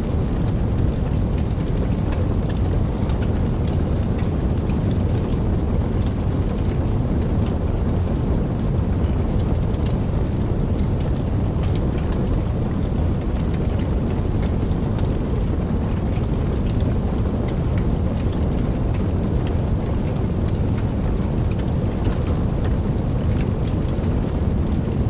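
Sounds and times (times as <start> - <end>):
fire crackles and pops: 0.0 - 25.0
fire roaring: 0.0 - 25.0.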